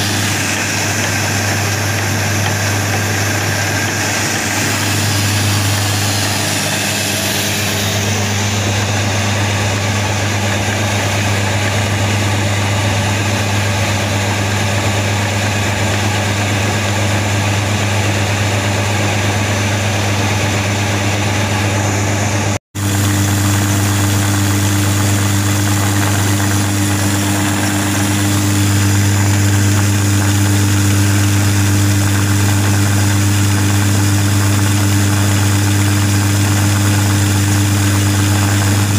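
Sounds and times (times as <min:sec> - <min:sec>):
electric flour mill grinding: 0:00.0 - 0:38.9.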